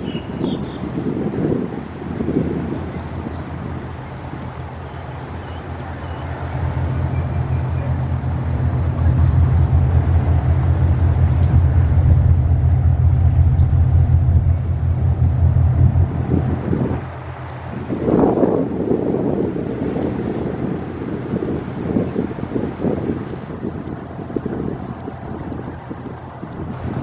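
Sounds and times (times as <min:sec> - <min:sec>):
ship diesel engine throbbing: 0:00.4 - 0:27.0.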